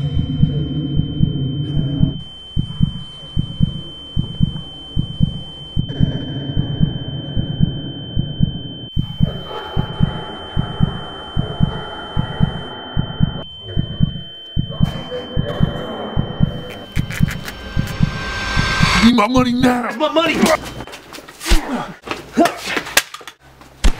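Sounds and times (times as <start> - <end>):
heartbeat double thumps: 0.0 - 19.6
steady high-pitched tone: 0.0 - 20.9.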